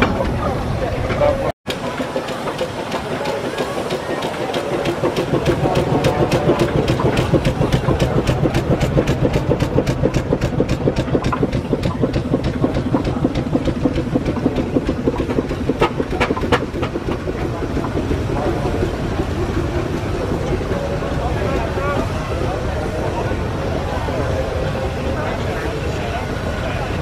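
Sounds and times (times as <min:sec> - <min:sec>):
low running hum: 0:00.0 - 0:27.0
steam engine chuffing: 0:00.0 - 0:27.0.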